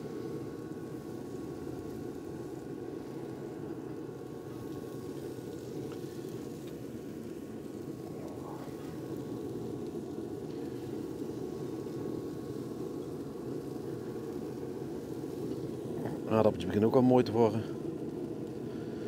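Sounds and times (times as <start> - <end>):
pellet grill fan humming: 0.0 - 19.0.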